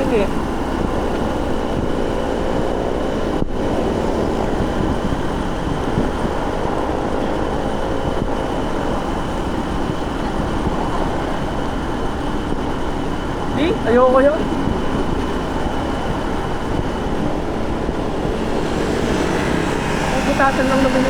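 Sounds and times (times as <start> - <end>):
motorcycle engine hum: 0.0 - 21.0
road noise: 0.0 - 21.0.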